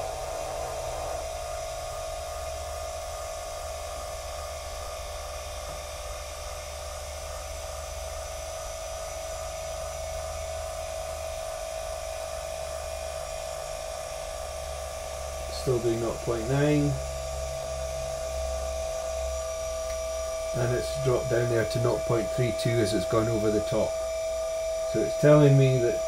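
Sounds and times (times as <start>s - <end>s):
telescope mount motor whining: 0.0s - 26.0s.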